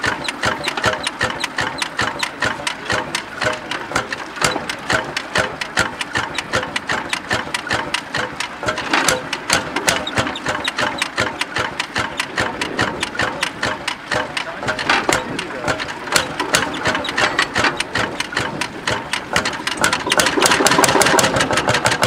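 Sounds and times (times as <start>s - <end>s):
single-cylinder engine knocking: 0.0s - 22.0s.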